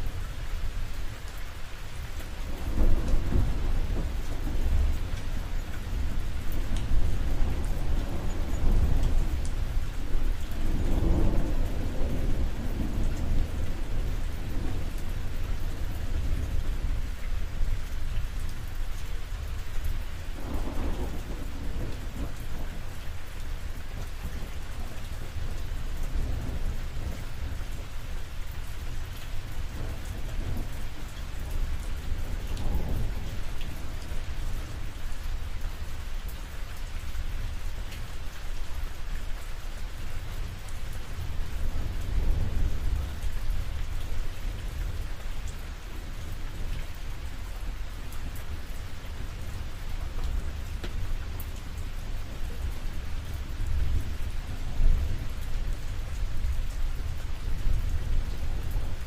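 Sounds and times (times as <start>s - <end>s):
rain on a roof: 0.0s - 59.0s
rumble of thunder: 2.4s - 37.6s, 39.8s - 59.0s.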